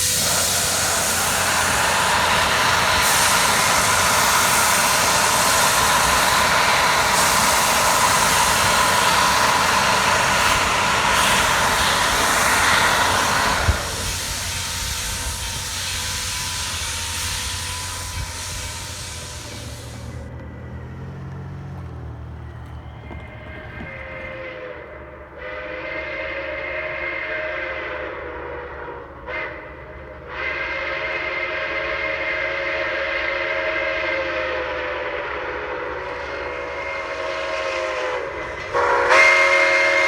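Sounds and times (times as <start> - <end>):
steam locomotive hissing: 0.0 - 40.0.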